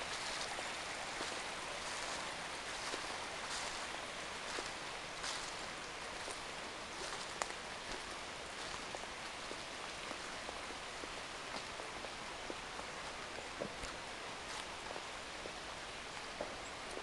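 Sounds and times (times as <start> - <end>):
dry leaves crackling underfoot: 0.0 - 15.4
small stream rushing: 0.0 - 17.0.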